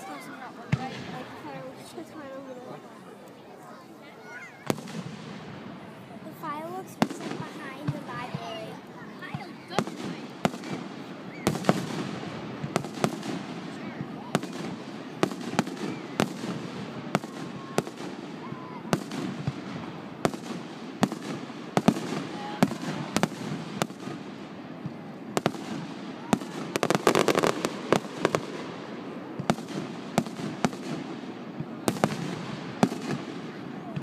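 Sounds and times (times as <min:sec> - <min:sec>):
firework crackling pops: 0:04.6 - 0:05.6, 0:06.3 - 0:08.7, 0:09.3 - 0:34.0.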